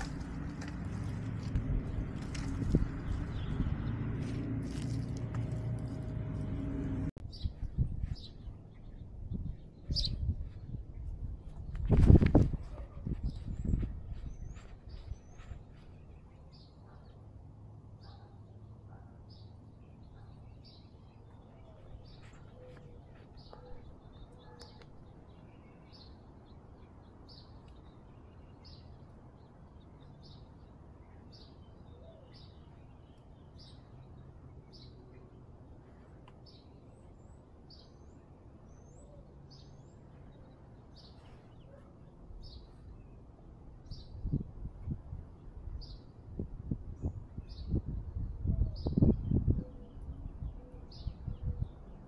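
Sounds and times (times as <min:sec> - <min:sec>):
bird chirping: 0:00.0 - 0:17.3, 0:19.2 - 0:44.4.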